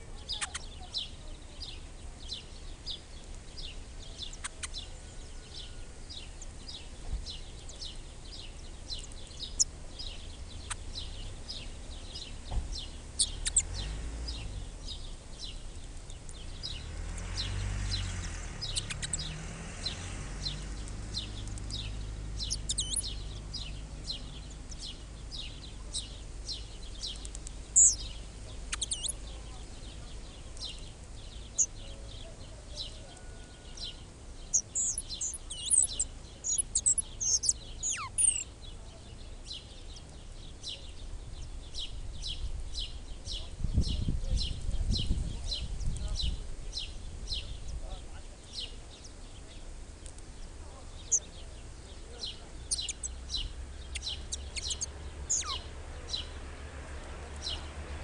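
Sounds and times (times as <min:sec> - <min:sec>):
birds chirping high and thin: 0:00.0 - 0:58.0.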